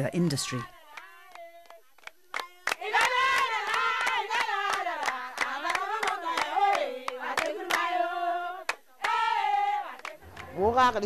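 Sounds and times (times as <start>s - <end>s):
rhythmic hand-clapping: 0.6s - 10.7s.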